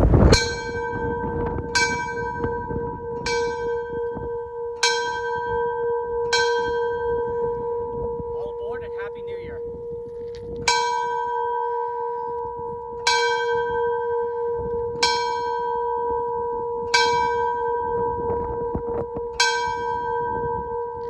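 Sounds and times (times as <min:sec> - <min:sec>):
deep bell ringing: 0:00.0 - 0:21.0.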